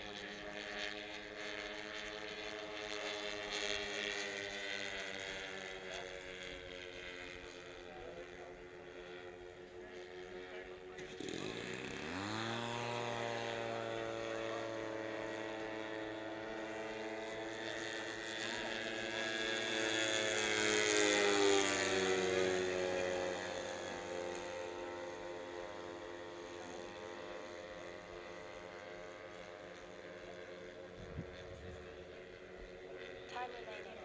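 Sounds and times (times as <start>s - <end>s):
model plane engines and propellers: 0.0s - 34.0s.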